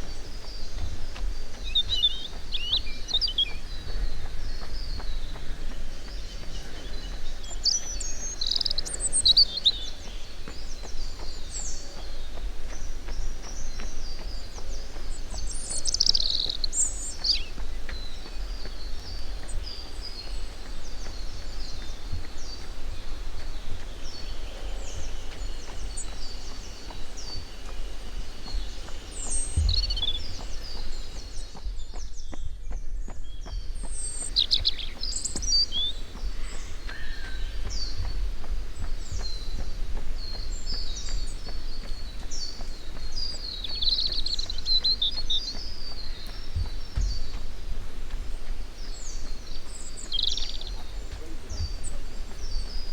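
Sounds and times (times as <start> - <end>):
birds chirping and singing: 0.0 - 52.9
steady low rumble: 0.0 - 52.9.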